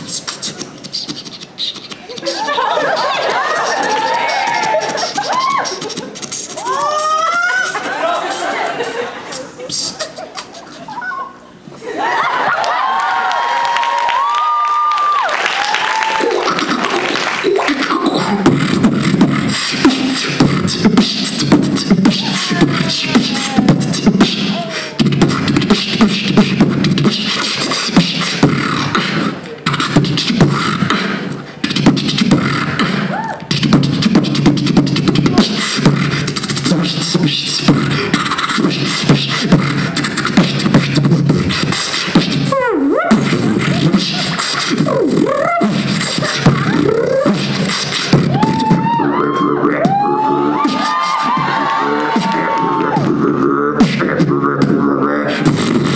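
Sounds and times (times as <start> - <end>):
beatboxing into microphone: 0.0 - 11.7, 14.1 - 55.9.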